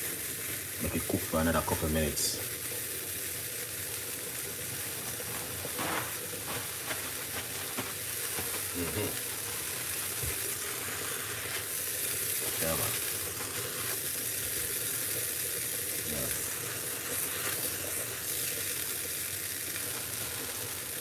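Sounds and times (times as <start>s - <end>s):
soup boiling in a covered pot: 0.0s - 21.0s.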